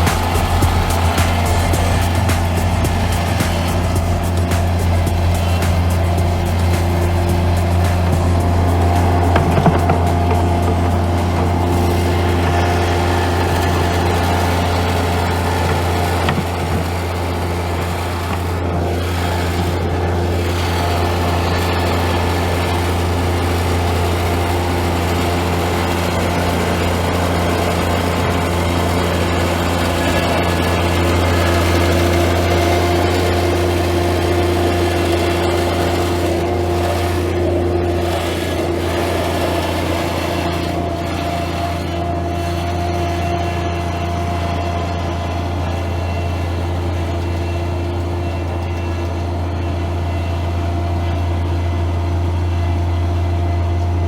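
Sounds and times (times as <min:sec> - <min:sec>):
machine humming: 0:00.0 - 0:54.0.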